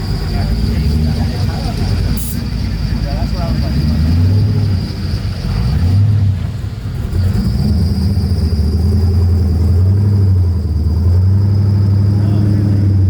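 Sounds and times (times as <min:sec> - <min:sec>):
vehicle engine rumbling at low revs: 0:00.0 - 0:13.0.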